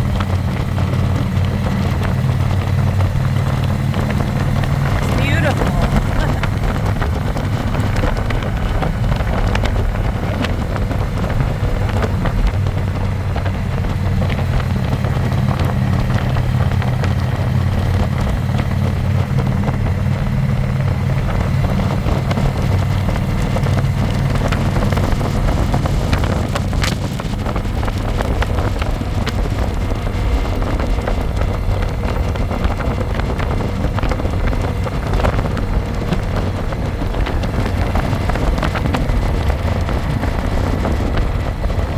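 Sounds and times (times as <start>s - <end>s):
motorcycle engine running: 0.0s - 41.9s
wind on microphone: 0.0s - 41.9s.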